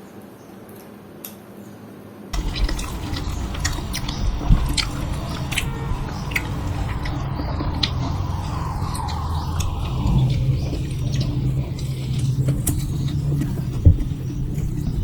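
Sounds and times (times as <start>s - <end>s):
low rumble: 2.4s - 15.0s.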